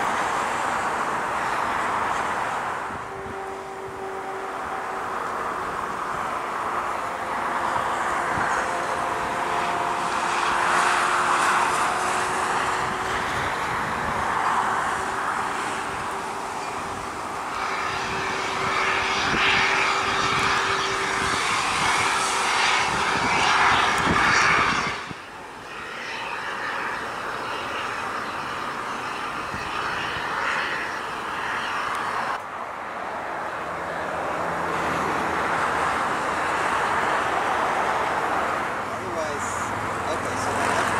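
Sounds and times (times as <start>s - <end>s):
jet engines roaring with turbine whine: 0.0s - 40.9s.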